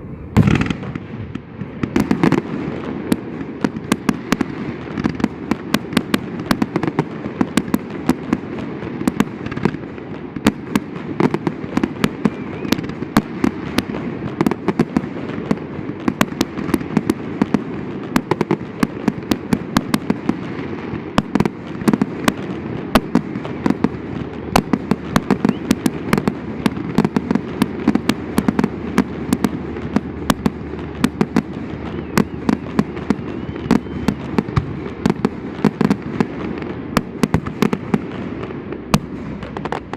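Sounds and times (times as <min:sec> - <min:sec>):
fireworks bangs and cracks: 0:00.0 - 0:39.9
low din of overlapping bursts: 0:00.0 - 0:39.9.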